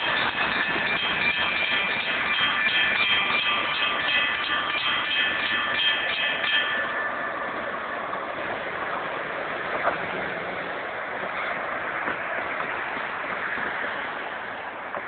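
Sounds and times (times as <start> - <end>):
level crossing warning bells: 0.0 - 15.0
train wheels rumbling on rails: 0.0 - 15.0.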